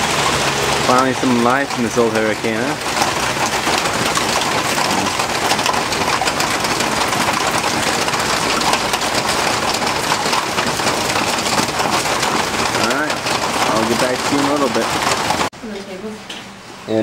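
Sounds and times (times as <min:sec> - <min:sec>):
heavy rain pattering: 0:00.0 - 0:15.5.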